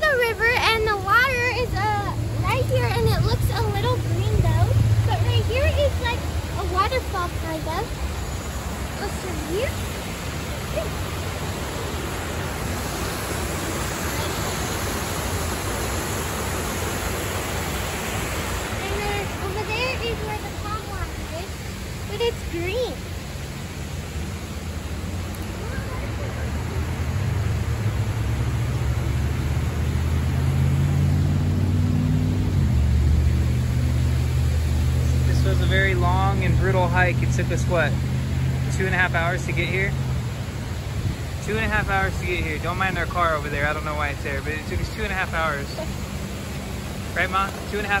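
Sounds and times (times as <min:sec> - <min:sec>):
outdoor hiss: 0:00.0 - 0:48.0
river water rushing over a drop: 0:00.0 - 0:48.0
vehicle engine rumbling: 0:00.0 - 0:48.0.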